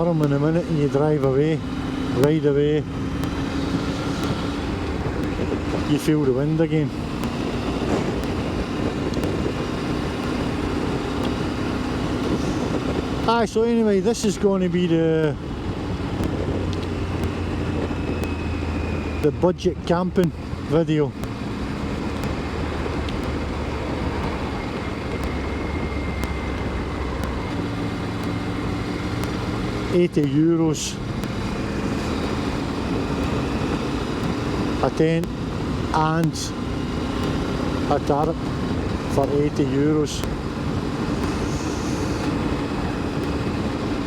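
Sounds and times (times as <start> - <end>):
motorcycle engine running: 0.0 - 44.0
wind rushing on microphone: 0.0 - 44.0.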